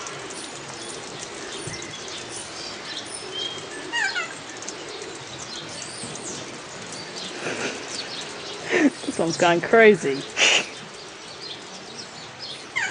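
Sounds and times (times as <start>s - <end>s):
background hiss: 0.0s - 12.9s.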